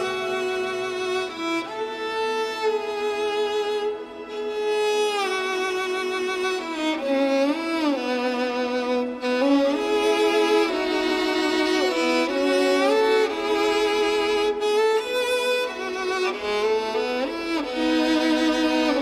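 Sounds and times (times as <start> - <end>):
slow violin melody: 0.0 - 19.0
soft low strings: 0.0 - 19.0.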